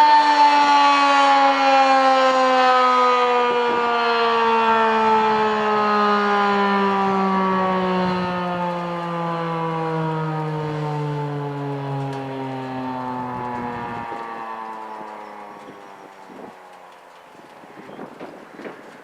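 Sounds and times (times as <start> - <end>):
warning siren winding down: 0.0 - 18.8.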